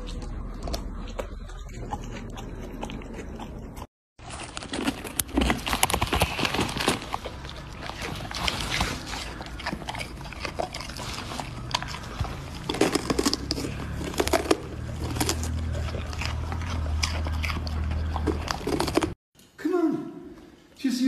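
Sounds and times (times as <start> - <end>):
dog crunching bell pepper: 0.0 - 19.2.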